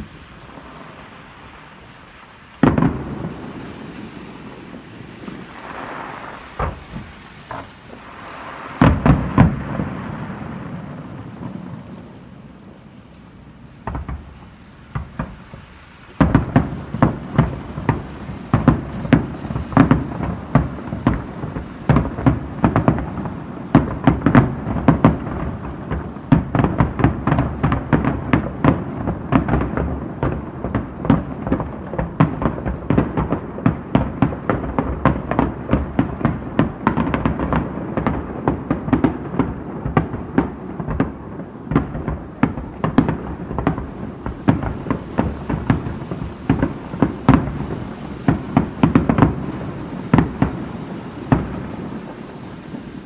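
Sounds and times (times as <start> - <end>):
fireworks bursts and bangs: 0.0 - 53.0.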